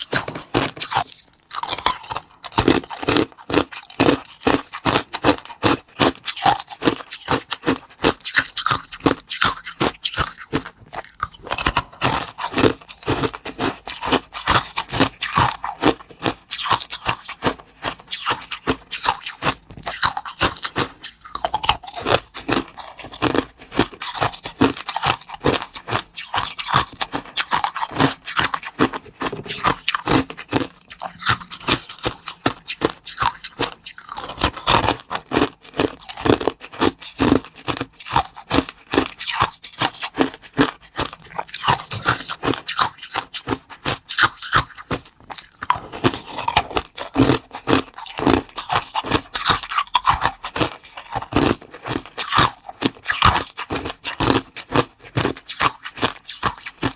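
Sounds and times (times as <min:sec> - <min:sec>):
crunching and chewing crisp food: 0:00.0 - 0:56.9.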